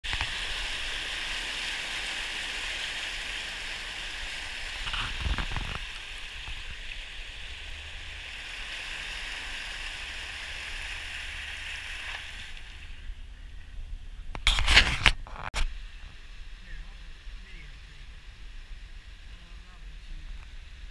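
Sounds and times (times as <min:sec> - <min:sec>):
floodwater rushing: 0:00.0 - 0:14.4, 0:15.6 - 0:20.9.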